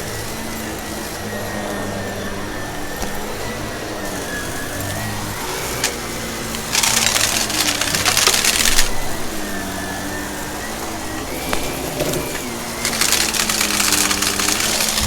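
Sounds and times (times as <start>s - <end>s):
debris crackling in vacuum: 0.0s - 15.0s
vacuum cleaner running: 0.0s - 15.0s.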